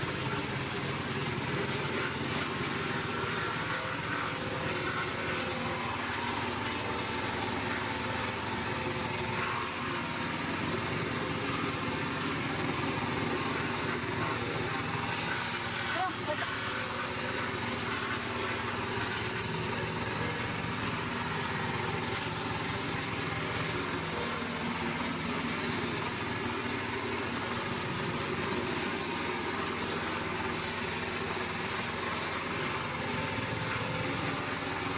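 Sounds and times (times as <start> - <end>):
wood chipper engine running: 0.0 - 34.9.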